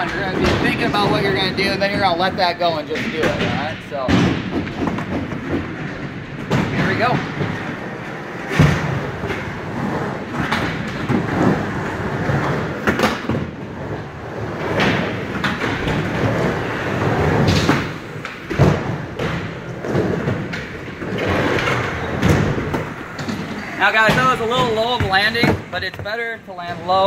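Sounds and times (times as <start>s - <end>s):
skateboard wheels rolling on ramp: 0.0s - 27.0s.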